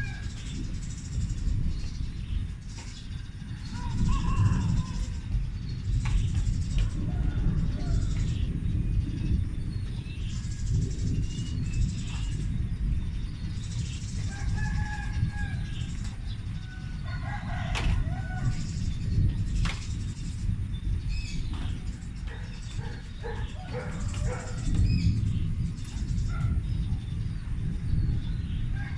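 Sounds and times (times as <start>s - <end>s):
birds chirping: 0.0s - 28.9s
continuous low rumble: 0.0s - 28.9s.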